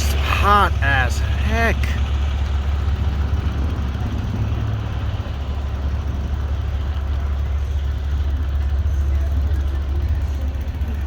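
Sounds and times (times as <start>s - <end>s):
diesel truck engines idling: 0.0s - 11.0s.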